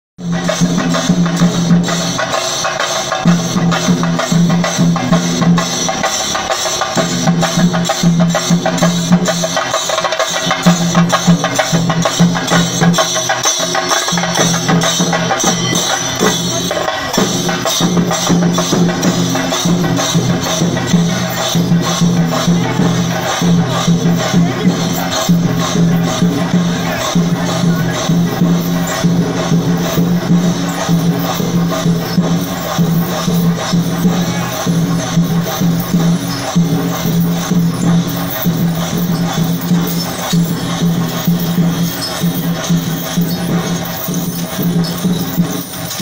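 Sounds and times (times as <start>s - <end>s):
drums beaten rapidly: 0.2s - 46.0s.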